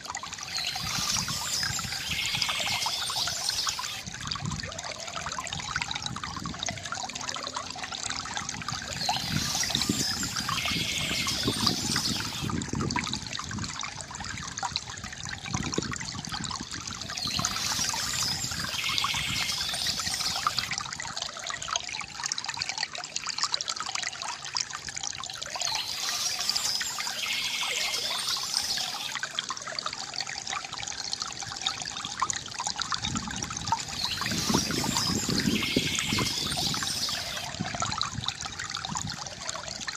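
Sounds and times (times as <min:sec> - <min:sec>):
water pouring from bamboo spout: 0:00.0 - 0:39.9.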